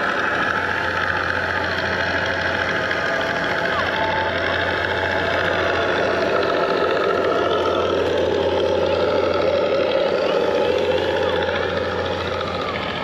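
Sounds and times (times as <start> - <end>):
simulated radial engine idle: 0.0 - 13.0.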